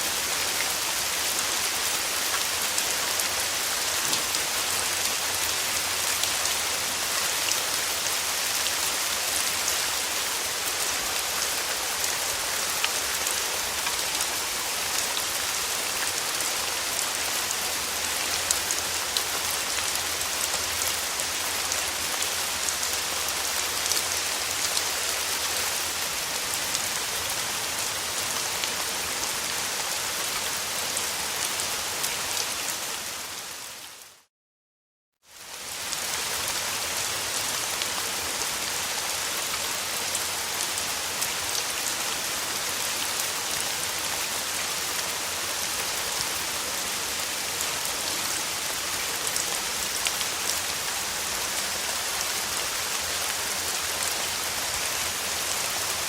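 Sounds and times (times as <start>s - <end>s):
rain falling: 0.0s - 34.3s, 35.3s - 56.0s.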